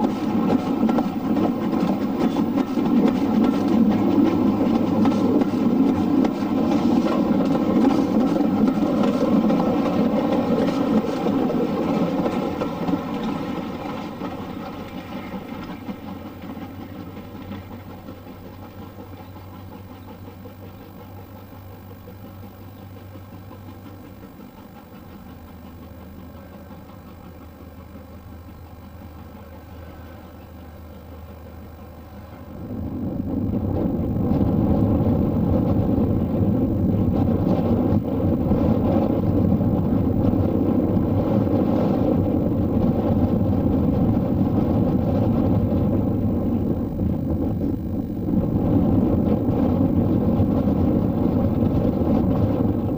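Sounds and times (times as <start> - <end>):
steady low hum: 0.0 - 52.9
train engine running: 0.0 - 52.9.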